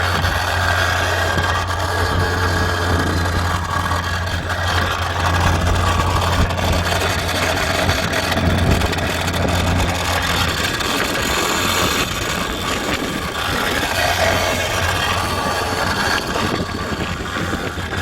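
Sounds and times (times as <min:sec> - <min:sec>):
engine-like hum with low drone: 0:00.0 - 0:18.0.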